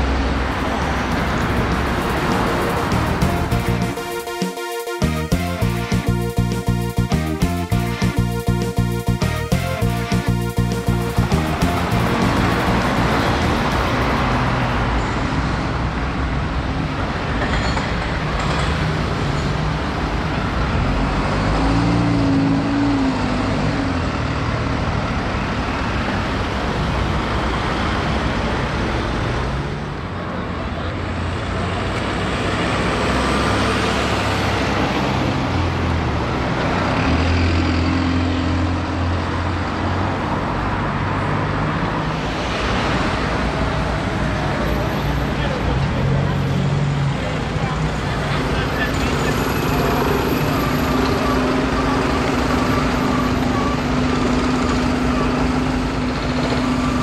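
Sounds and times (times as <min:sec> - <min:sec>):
bus diesel engine pulling away: 0:00.0 - 0:04.2, 0:05.0 - 0:57.0
passing cars and lorry: 0:00.0 - 0:04.4, 0:05.3 - 0:57.0.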